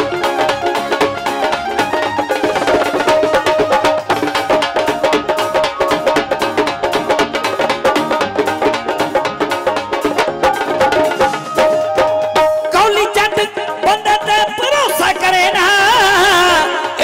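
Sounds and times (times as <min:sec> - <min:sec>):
hand-drum percussion: 0:00.0 - 0:17.0
keyboard melody: 0:00.0 - 0:17.0.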